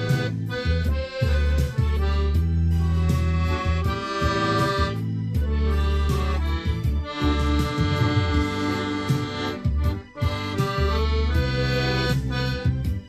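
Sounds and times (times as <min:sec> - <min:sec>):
accordion playing slow melody: 0:00.0 - 0:13.0.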